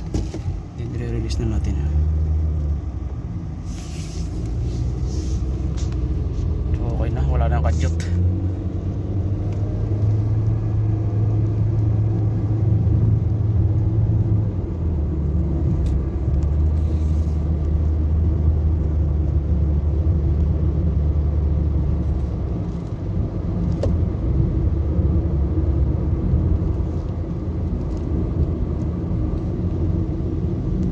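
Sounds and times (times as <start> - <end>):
car engine and road noise drone: 0.0 - 30.9.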